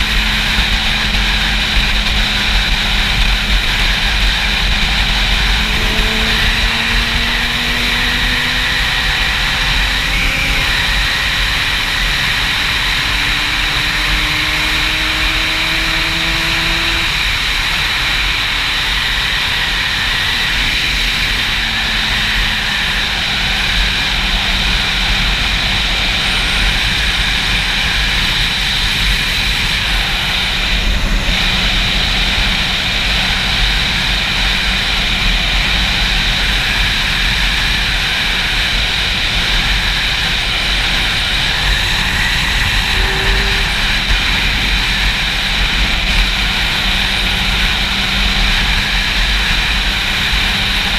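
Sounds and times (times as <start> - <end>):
motorcycle engine: 0.0 - 50.9
wind rushing over microphone: 0.0 - 50.9.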